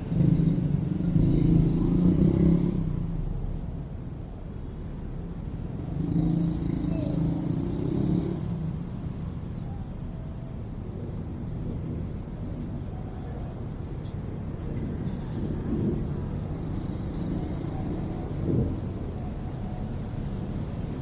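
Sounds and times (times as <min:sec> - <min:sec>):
steady low traffic rumble: 0:00.0 - 0:21.0
vehicles passing: 0:00.0 - 0:21.0.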